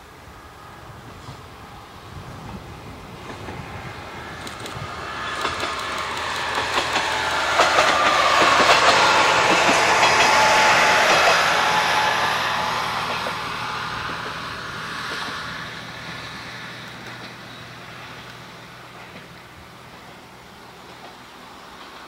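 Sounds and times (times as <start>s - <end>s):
diesel railcar passing: 0.0s - 22.0s
wheels clicking over rail joints: 2.2s - 22.0s.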